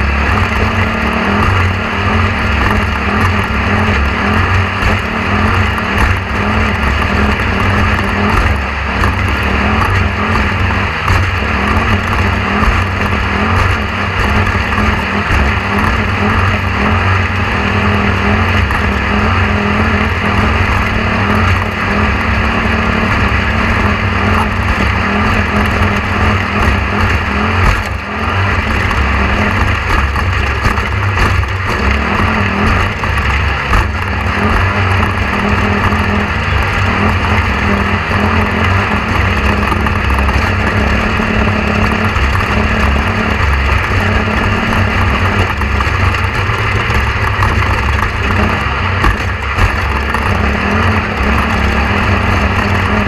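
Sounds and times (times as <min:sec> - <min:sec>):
loud mechanical drone: 0:00.0 - 0:53.0.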